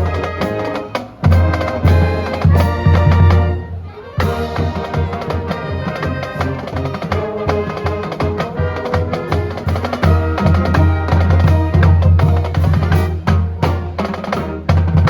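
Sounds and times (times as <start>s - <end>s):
wind band playing: 0.0s - 15.0s.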